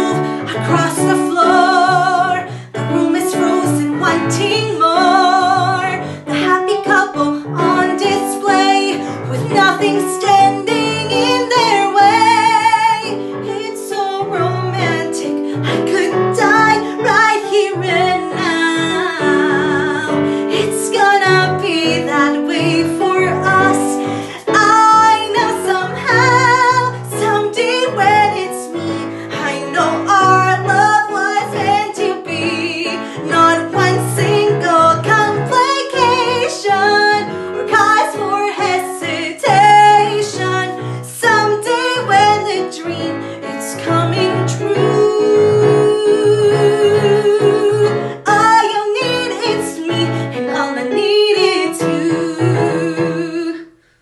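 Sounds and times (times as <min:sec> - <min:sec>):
piano accompaniment: 0:00.0 - 0:53.8
woman singing with vibrato: 0:00.0 - 0:53.8.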